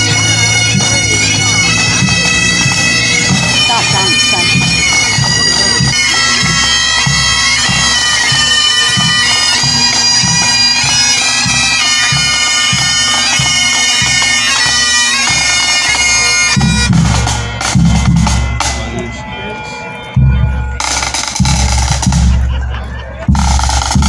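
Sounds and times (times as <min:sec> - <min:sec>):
bagpipes playing: 0:00.0 - 0:24.0
march drums beating: 0:00.0 - 0:24.0.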